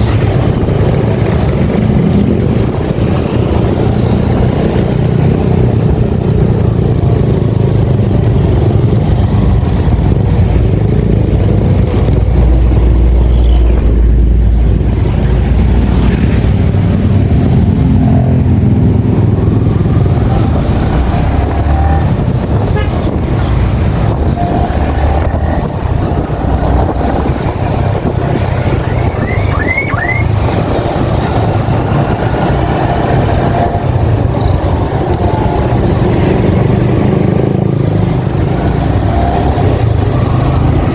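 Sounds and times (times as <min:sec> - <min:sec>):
road and wind rumble: 0:00.0 - 0:40.9.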